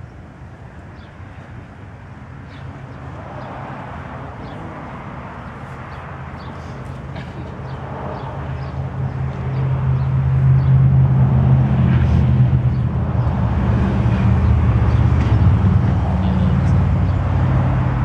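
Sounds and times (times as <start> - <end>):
low engine hum: 1.3 - 18.0.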